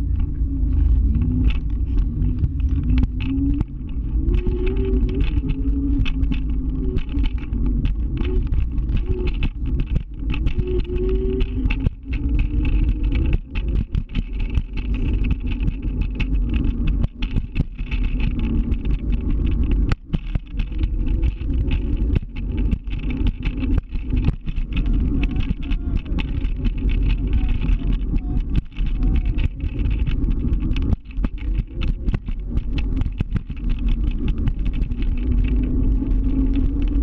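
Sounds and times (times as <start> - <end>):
scooter riding rumble: 0.0 - 37.0.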